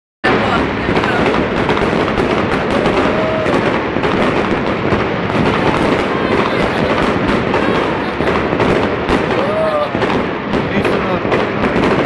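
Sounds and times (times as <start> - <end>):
firework whistle: 0.2 - 11.0
fireworks crackling and banging: 0.2 - 12.0.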